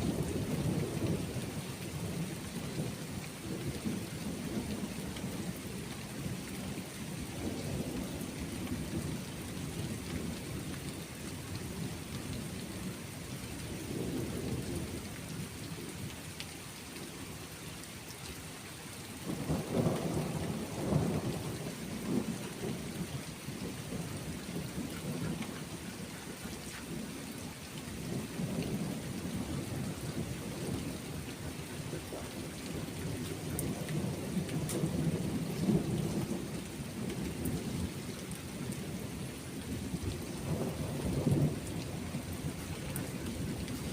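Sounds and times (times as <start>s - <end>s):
thunder rumbling: 0.0s - 12.9s, 13.6s - 16.0s, 19.2s - 43.9s
steady rain falling: 0.0s - 43.9s.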